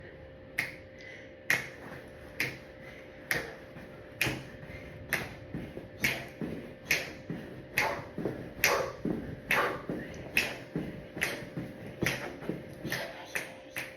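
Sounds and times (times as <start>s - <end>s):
person making sharp clicking sounds: 0.6s - 2.6s, 3.2s - 5.4s, 6.0s - 13.9s.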